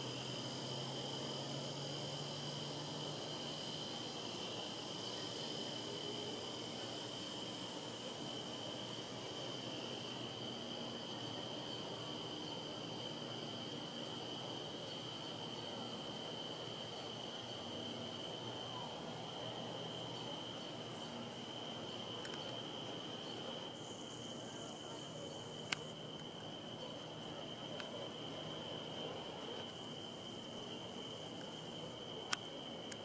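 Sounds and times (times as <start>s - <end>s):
crickets trilling: 0.0s - 33.0s
high insect chirping: 0.0s - 33.0s.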